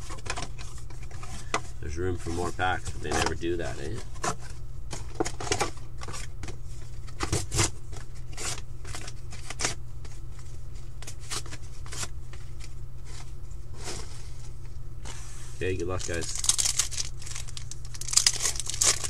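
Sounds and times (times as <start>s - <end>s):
foil card packs rustling: 0.0s - 19.0s
steady low hum: 0.0s - 19.0s.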